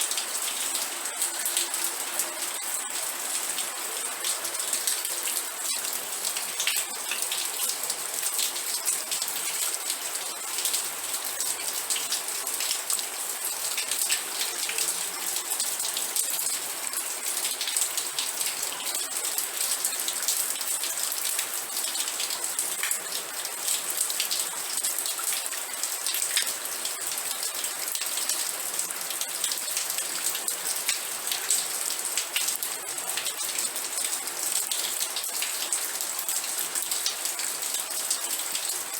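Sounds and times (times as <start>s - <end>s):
rain drops ticking on a surface: 0.0s - 38.9s.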